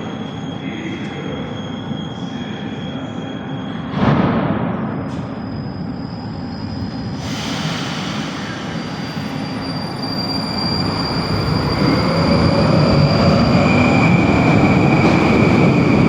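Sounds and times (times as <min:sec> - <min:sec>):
metro train wheel and running noise: 0:00.0 - 0:16.0.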